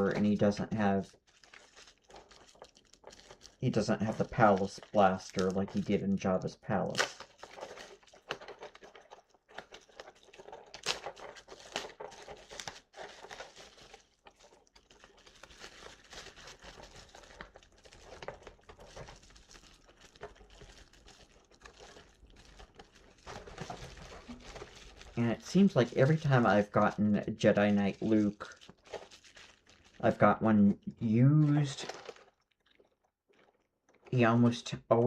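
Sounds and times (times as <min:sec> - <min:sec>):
soft rustling and crinkling: 0:00.0 - 0:34.6.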